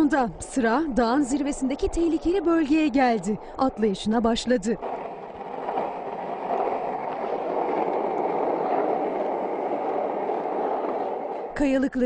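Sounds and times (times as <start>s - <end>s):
skis sliding over snow: 0.1s - 12.0s.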